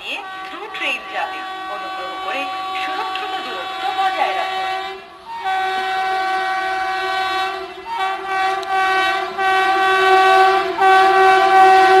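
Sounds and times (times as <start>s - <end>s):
train horn blasts: 0.0s - 12.0s.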